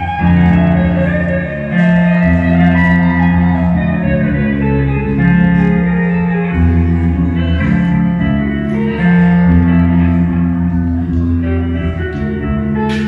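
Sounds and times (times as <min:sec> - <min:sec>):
electric bass low notes: 0:00.0 - 0:13.0
sustained guitar chords: 0:00.0 - 0:13.0.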